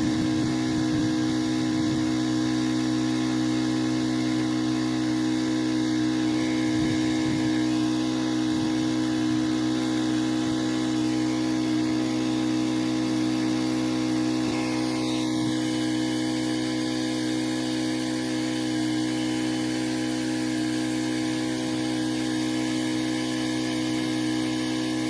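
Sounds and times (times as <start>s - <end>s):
hissing water spray: 0.0s - 25.0s
pressure washer engine running: 0.0s - 25.0s.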